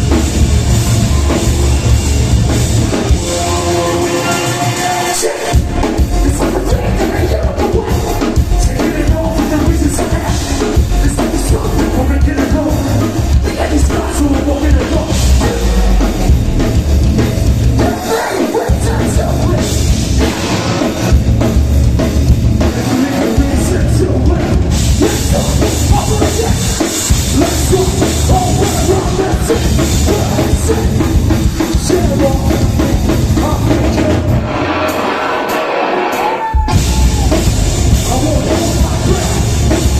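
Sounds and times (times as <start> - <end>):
heavy bass: 0.0 - 39.9
heavy metal band playing live: 0.0 - 39.9
loud drum kit: 0.0 - 39.9.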